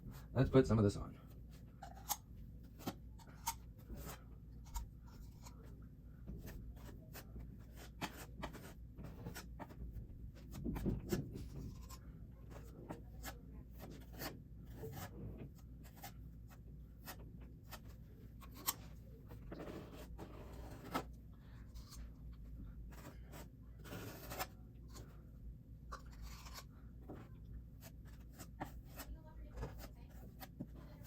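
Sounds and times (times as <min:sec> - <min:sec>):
filler scraping: 0:01.6 - 0:25.3, 0:25.9 - 0:31.0.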